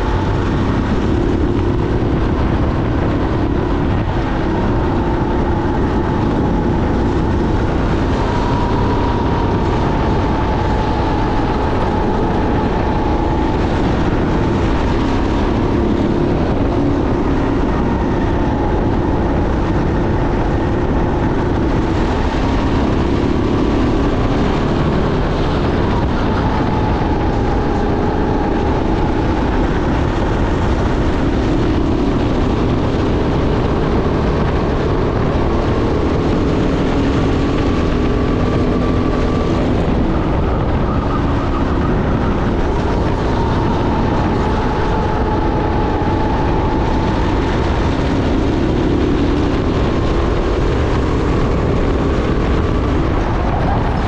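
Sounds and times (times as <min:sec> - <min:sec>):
go-kart engine racing: 0:00.0 - 0:54.0
wind and road noise: 0:00.0 - 0:54.0.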